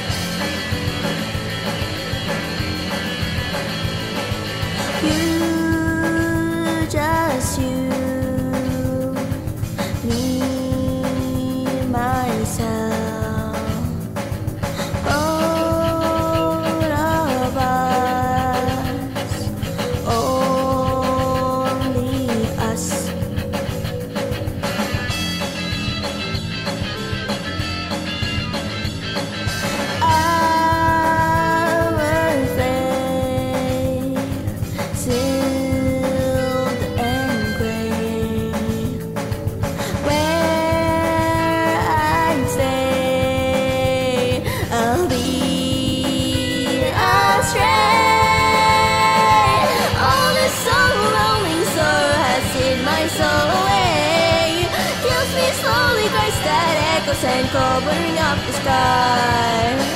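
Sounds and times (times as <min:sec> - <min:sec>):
guitar backing: 0:00.0 - 0:59.9
person singing rock song: 0:00.0 - 0:59.9.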